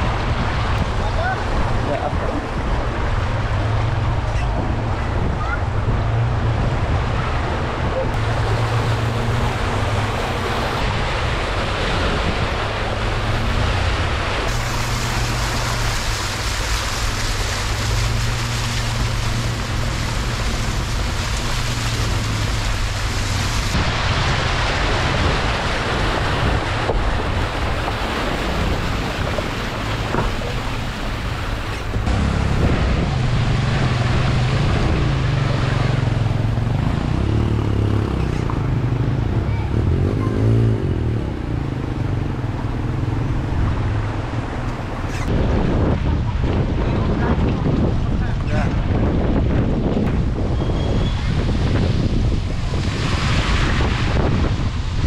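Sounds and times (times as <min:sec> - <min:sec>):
wind buffeting microphone: 0:00.0 - 0:39.8, 0:40.8 - 0:55.0
water splashing around wheels: 0:00.0 - 0:55.0
vehicle engine humming: 0:02.5 - 0:47.7.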